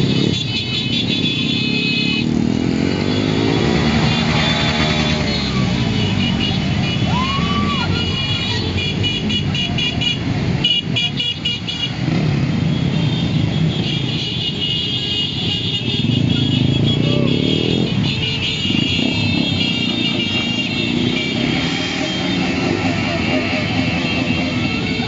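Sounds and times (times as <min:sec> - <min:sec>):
horns honking: 0:00.0 - 0:25.0
motorcycle engines running: 0:00.0 - 0:25.0.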